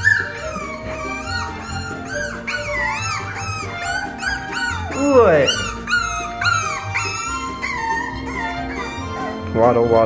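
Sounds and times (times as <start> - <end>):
background music: 0.0 - 10.0
high-pitched squeaks: 0.0 - 10.0
puppies whimpering: 0.0 - 10.0
puppy falling whine: 0.0 - 10.0.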